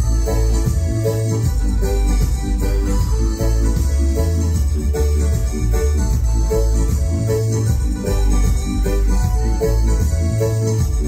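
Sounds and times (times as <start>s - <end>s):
heavy bass line: 0.0s - 11.0s
live band music: 0.0s - 11.0s
sustained keyboard chords: 0.0s - 11.0s.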